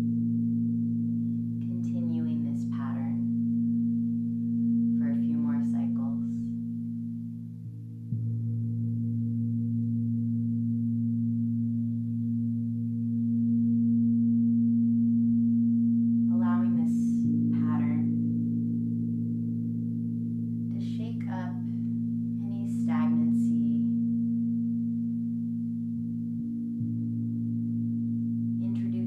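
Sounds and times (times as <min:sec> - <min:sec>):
singing bowls ringing: 0:00.0 - 0:29.0.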